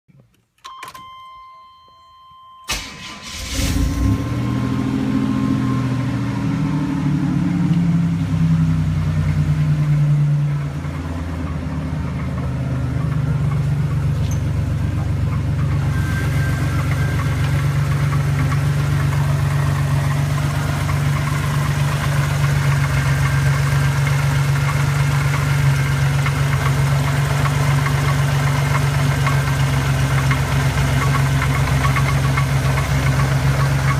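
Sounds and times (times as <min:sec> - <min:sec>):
car engine starting and idling: 0:02.7 - 0:33.9.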